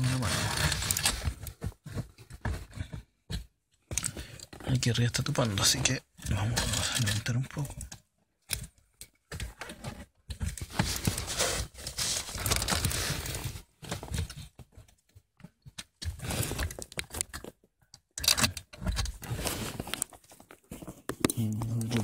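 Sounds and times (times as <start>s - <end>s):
plastic parts rustling and clicking: 0.0s - 2.8s, 3.9s - 22.0s.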